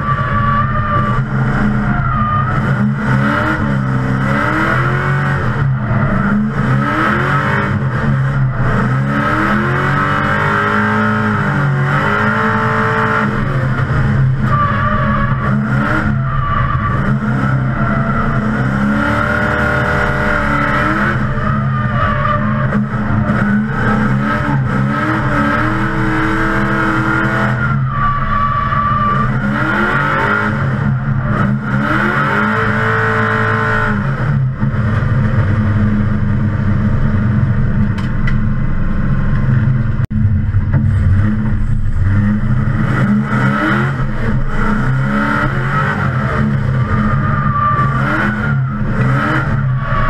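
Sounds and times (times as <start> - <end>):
tyres screeching: 0.0 - 33.7, 41.6 - 50.0
car engine revving hard: 0.0 - 37.7, 40.0 - 50.0.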